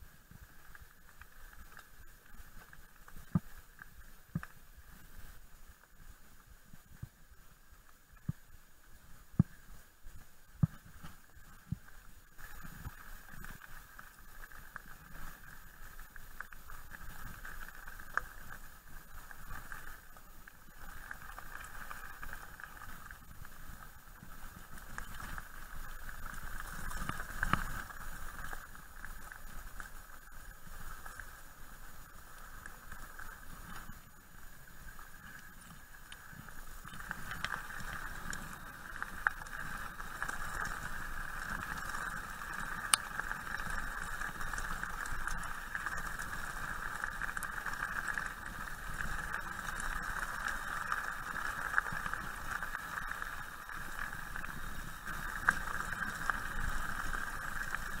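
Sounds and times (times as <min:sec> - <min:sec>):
bike tyres rolling on gravel: 0:00.0 - 0:58.0.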